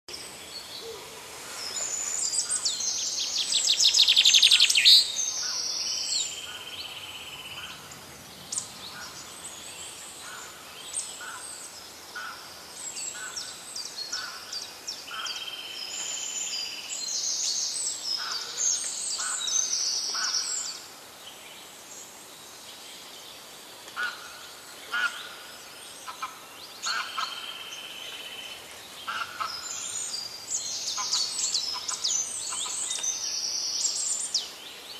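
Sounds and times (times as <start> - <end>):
birds singing and chirping: 0.1 - 34.9.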